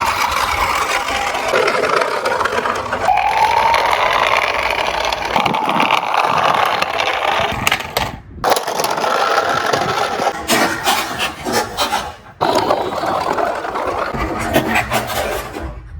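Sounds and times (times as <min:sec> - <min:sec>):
toy cars rolling and rattling: 0:00.0 - 0:15.6.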